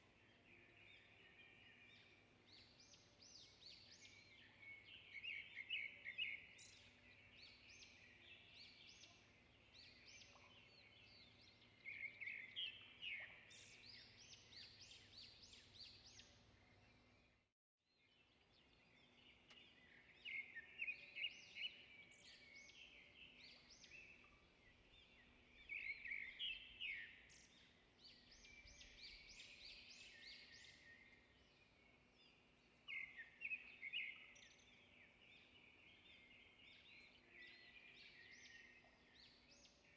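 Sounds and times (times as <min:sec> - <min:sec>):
small birds chirping and trilling: 0:00.0 - 0:17.4, 0:18.0 - 0:39.9.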